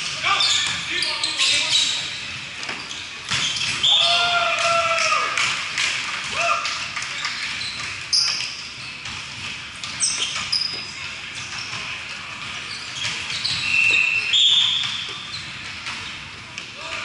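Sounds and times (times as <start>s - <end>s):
sneakers squeaking on court: 0.0s - 4.2s, 7.0s - 16.6s
volleyball bouncing on floor: 2.6s - 16.7s.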